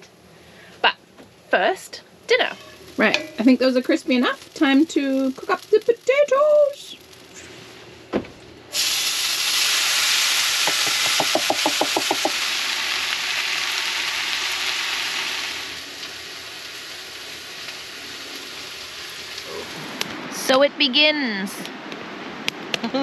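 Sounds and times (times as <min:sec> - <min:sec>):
potatoes sizzling in frying pan: 0:01.3 - 0:07.9, 0:08.7 - 0:21.6.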